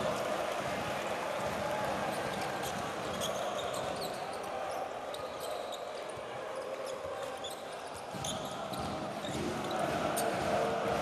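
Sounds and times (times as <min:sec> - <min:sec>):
arena crowd noise: 0:00.0 - 0:11.0.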